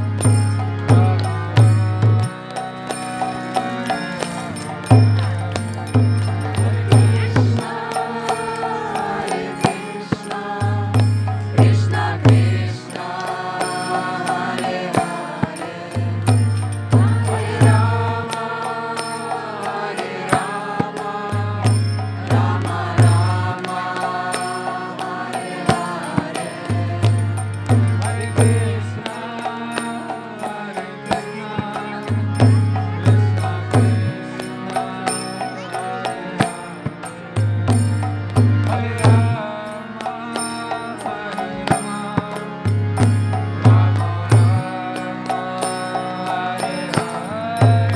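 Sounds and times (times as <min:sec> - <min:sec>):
call-and-response chanting: 0:00.0 - 0:47.9.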